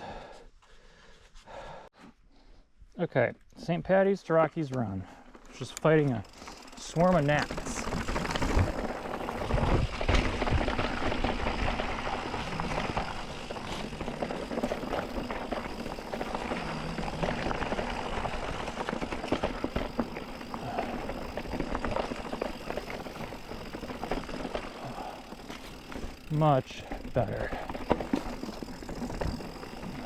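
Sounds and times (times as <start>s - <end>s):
bike rattling: 5.2s - 30.0s
bike tyre noise: 5.3s - 30.0s.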